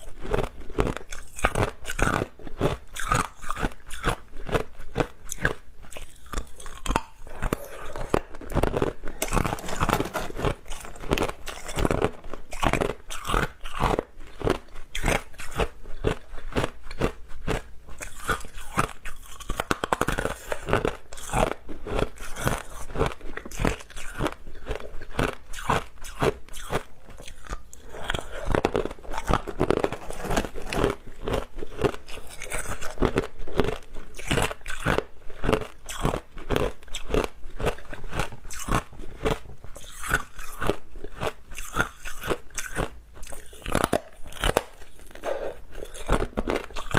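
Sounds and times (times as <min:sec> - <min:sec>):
ice crunching while chewed: 0:00.0 - 0:46.9.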